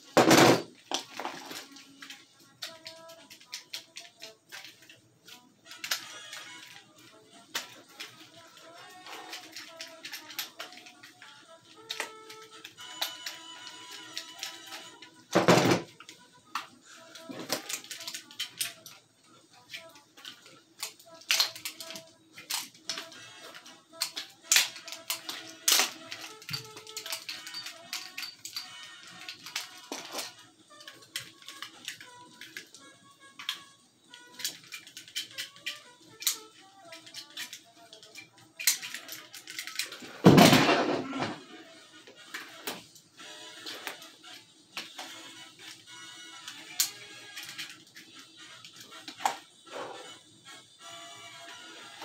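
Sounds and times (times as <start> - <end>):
background music: 0.0 - 52.0
toy revolvers clicking and clattering: 0.0 - 52.0.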